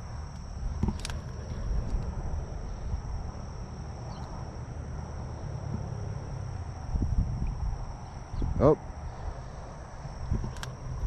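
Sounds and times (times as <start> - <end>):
wind rumble on microphone: 0.0 - 4.8, 5.5 - 11.0
insects trilling: 0.0 - 11.0.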